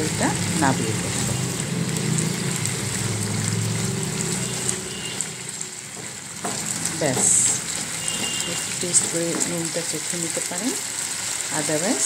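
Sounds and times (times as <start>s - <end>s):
curry bubbling and sizzling: 0.0s - 12.0s.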